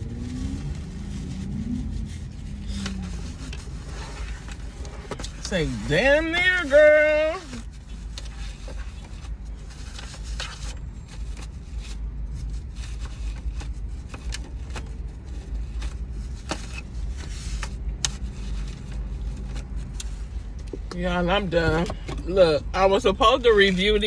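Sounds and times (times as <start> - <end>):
car interior hum: 0.0 - 24.0
scrapes and clicks of handling: 0.1 - 21.0.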